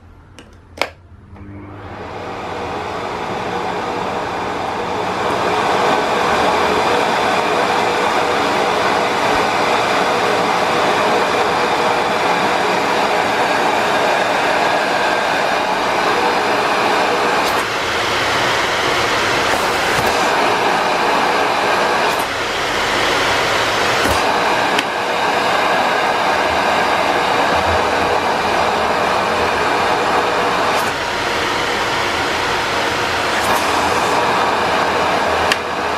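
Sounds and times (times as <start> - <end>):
vacuum cleaner running: 0.8 - 35.9.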